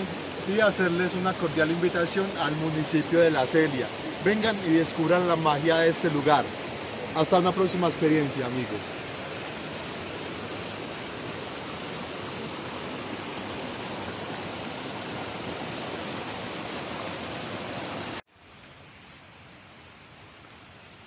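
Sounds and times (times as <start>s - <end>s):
stream rushing over stones: 0.0s - 18.2s
steady background hiss: 0.0s - 21.0s.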